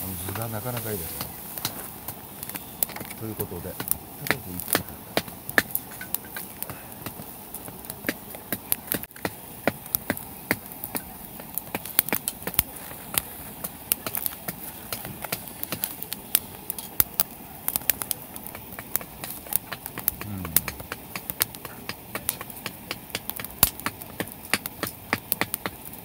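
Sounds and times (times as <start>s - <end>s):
low fire hiss: 0.0s - 26.0s
wood fire crackling: 0.0s - 26.0s
sharp pops and snaps: 0.2s - 26.0s.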